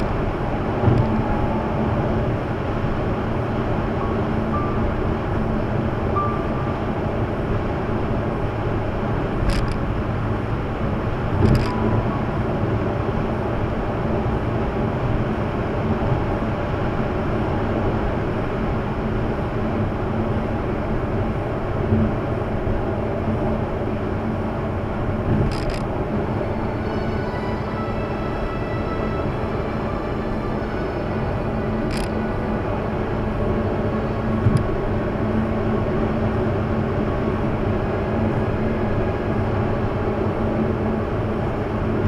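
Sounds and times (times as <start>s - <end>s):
tyre and wind road noise: 0.0s - 42.0s.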